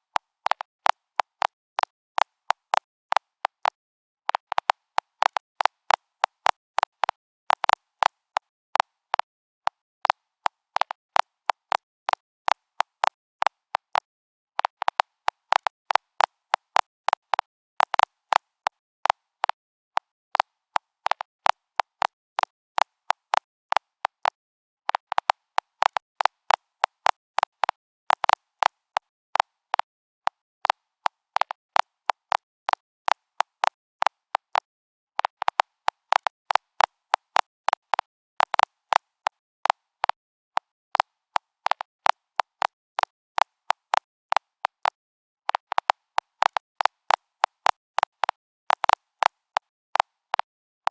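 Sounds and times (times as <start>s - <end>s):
geiger counter clicking: 0.4s - 8.5s, 10.0s - 19.6s, 21.0s - 29.1s, 30.6s - 40.2s, 41.4s - 50.9s.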